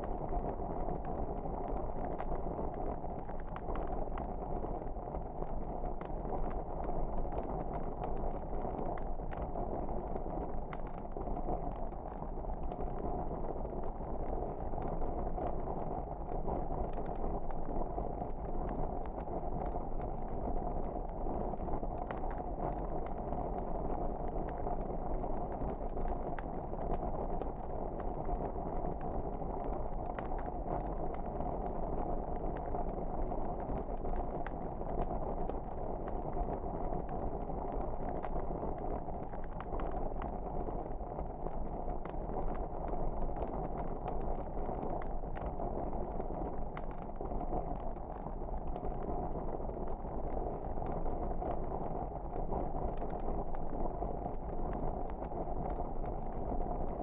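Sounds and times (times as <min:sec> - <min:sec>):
logs crackling and popping: 0:00.0 - 0:57.0.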